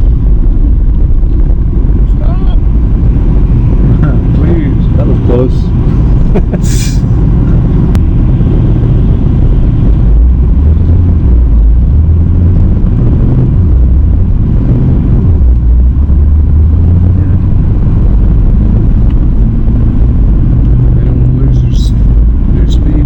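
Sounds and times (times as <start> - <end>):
car engine drone: 0.0 - 23.0
road noise: 0.0 - 23.0.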